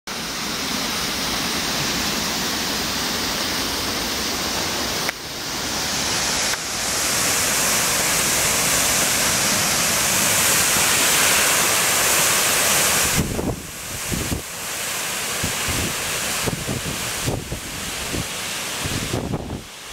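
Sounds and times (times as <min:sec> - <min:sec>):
waterfall rushing: 0:00.1 - 0:19.9.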